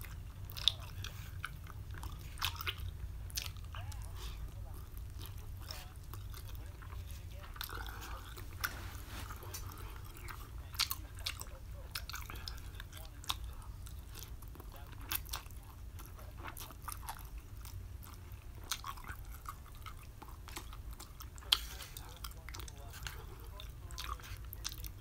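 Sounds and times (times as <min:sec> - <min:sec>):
man chewing noodles wetly: 0:00.0 - 0:25.0.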